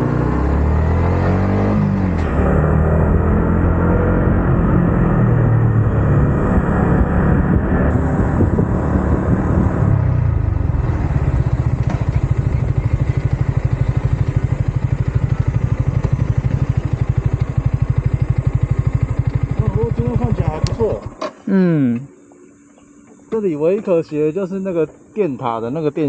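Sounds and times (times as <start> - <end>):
motorcycle engine and exhaust: 0.0 - 26.0.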